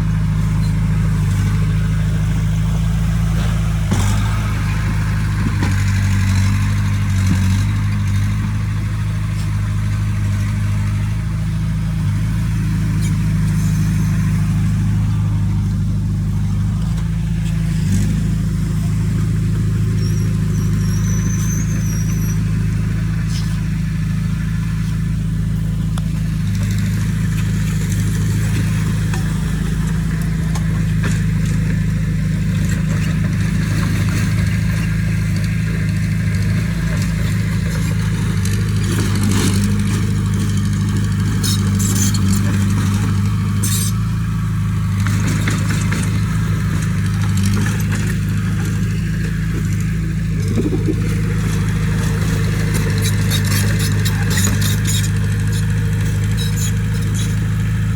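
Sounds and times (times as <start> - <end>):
heavy diesel machinery droning: 0.0 - 57.9.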